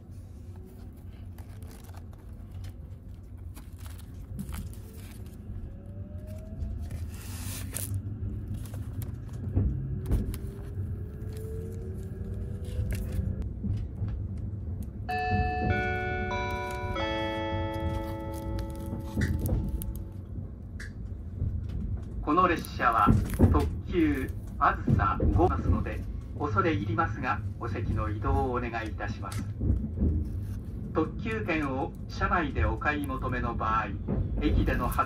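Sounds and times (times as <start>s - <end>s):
train interior rumble: 0.0s - 35.0s.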